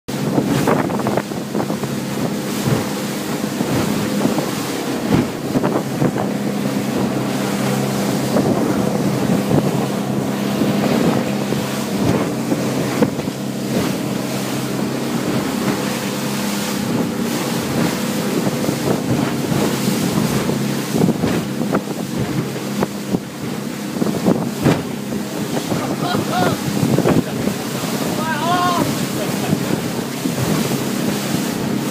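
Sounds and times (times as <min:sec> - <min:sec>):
speedboat engine drone: 0:00.1 - 0:31.9
water rushing past hull: 0:00.1 - 0:31.9
wind buffeting microphone: 0:00.1 - 0:31.9.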